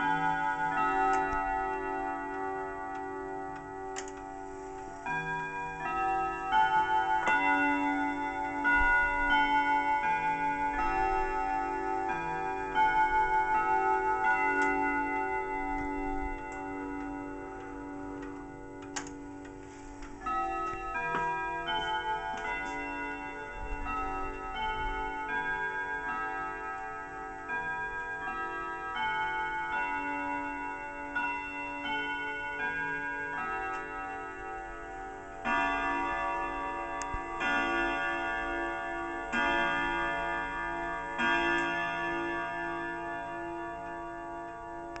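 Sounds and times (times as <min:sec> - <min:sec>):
clock striking the hour: 0:00.0 - 0:45.0
wall clock chime melody: 0:00.0 - 0:45.0.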